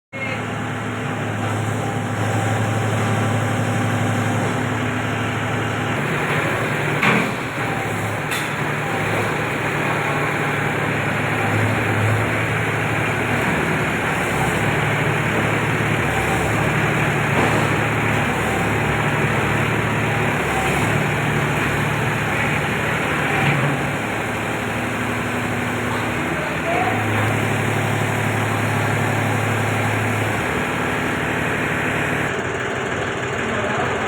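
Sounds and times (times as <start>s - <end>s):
tractor diesel engine running: 0.2s - 34.0s.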